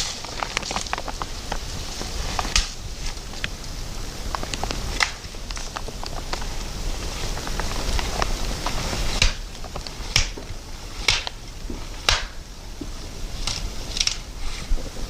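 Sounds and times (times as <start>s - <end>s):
footsteps crunching in snow: 0.0s - 12.1s
light crackling clicks: 0.0s - 15.0s.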